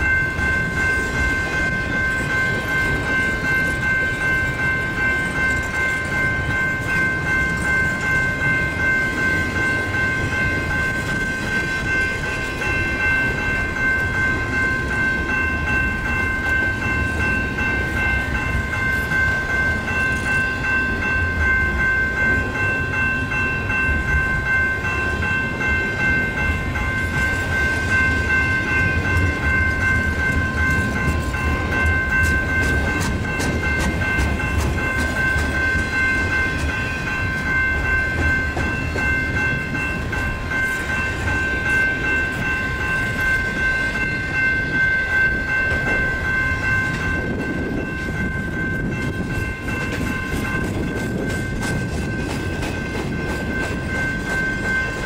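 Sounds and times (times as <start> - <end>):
crossing warning bell ringing: 0.0 - 55.0
freight train rumbling past: 0.0 - 55.0
train wheel clicks: 0.0 - 55.0.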